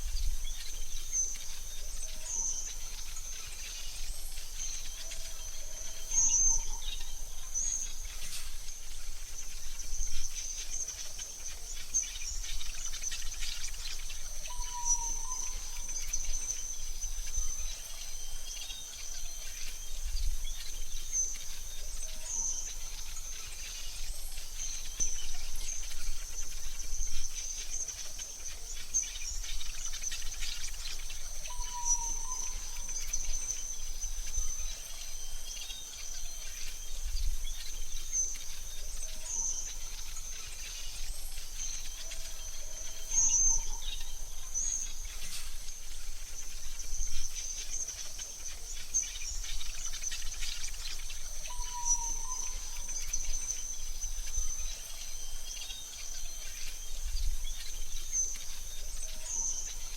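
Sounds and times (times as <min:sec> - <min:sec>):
bird chirps: 0:00.0 - 0:59.9
insect trill: 0:00.0 - 0:59.9.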